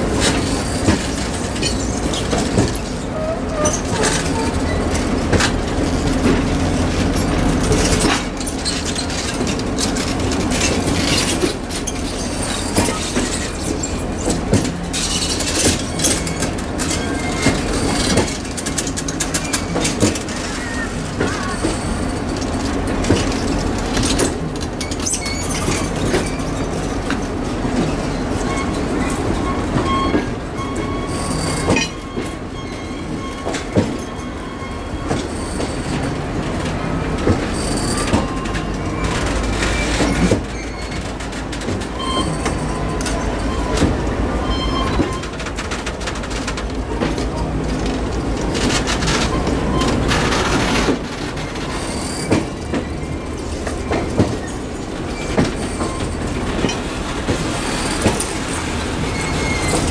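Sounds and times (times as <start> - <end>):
clicks over rail joints: 0.0 - 59.9
train wheels rumbling on rails: 0.0 - 59.9
wheel squeals: 0.1 - 59.9.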